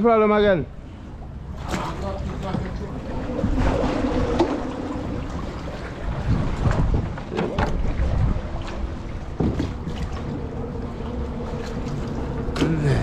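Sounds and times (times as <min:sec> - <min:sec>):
water lapping around kayak: 0:00.7 - 0:13.0
wind rumbling on microphone: 0:00.8 - 0:13.0.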